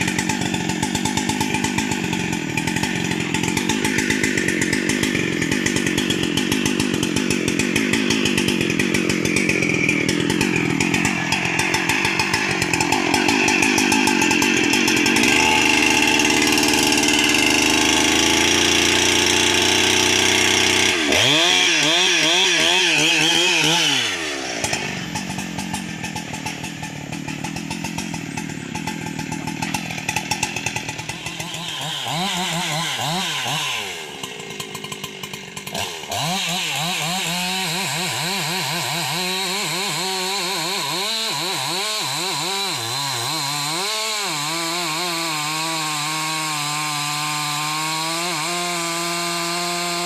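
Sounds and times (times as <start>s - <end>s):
chainsaw cutting log: 0.0s - 50.0s.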